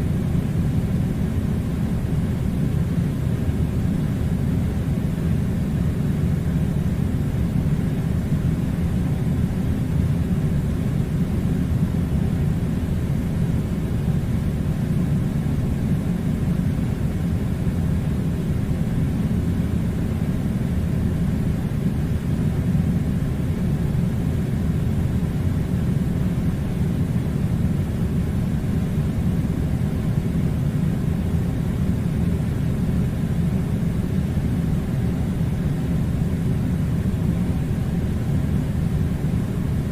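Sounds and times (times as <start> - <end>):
air conditioning blowing: 0.0 - 39.9.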